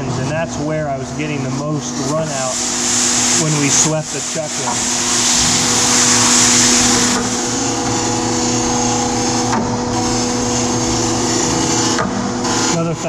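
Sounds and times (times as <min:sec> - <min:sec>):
spindle motor hum: 0:00.0 - 0:13.0
grinding wheel hiss: 0:00.9 - 0:13.0.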